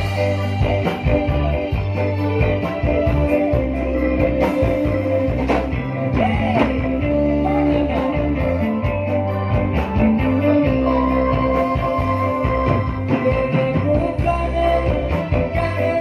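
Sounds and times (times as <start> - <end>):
bass guitar: 0.0 - 16.0
electric guitars: 0.0 - 16.0
keyboard: 0.0 - 16.0
person singing: 0.0 - 16.0
steady beat: 0.0 - 16.0.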